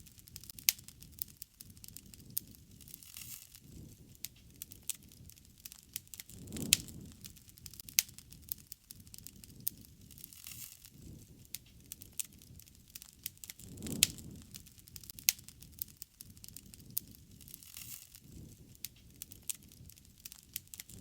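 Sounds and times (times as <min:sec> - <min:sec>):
campfire crackling and popping: 0:00.0 - 0:21.0
low rush of flame: 0:00.0 - 0:21.0.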